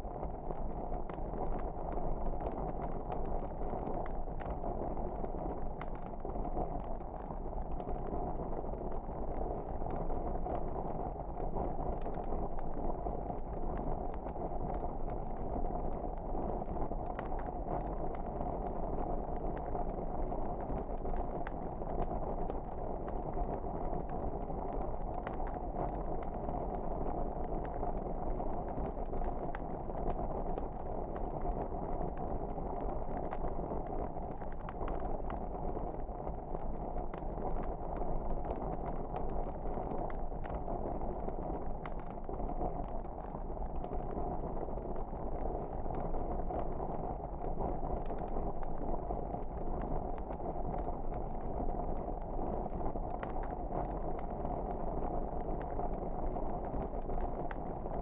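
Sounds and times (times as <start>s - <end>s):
wood fire crackling: 0.1s - 58.0s.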